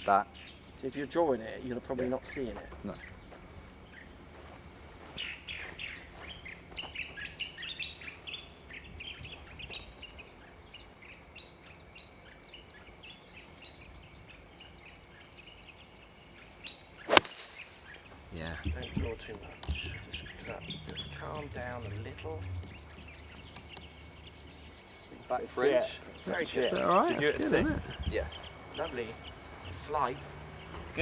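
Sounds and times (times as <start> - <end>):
birds chirping: 0.0 - 31.0
faint high-pitched hum: 0.0 - 31.0.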